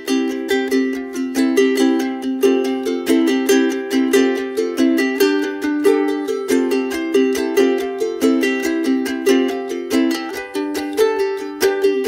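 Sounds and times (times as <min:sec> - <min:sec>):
plucked string instrumental music: 0:00.0 - 0:12.0.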